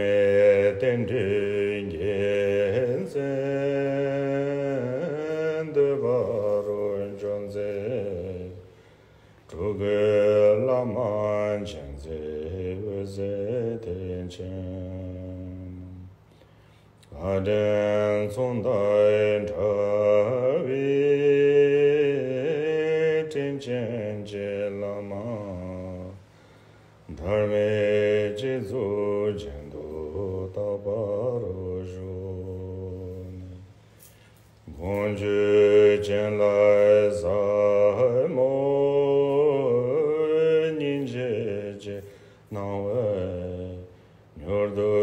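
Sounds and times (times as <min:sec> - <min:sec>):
man chanting a prayer: 0:00.0 - 0:08.7, 0:09.5 - 0:16.1, 0:17.0 - 0:26.3, 0:27.0 - 0:33.8, 0:34.6 - 0:45.0.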